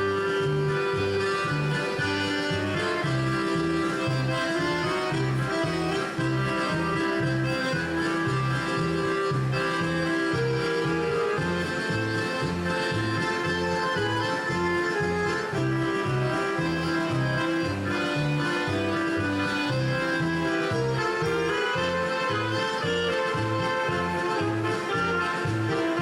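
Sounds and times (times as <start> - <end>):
accordion playing polka: 0.0 - 26.0
oom-pah bass: 0.0 - 26.0.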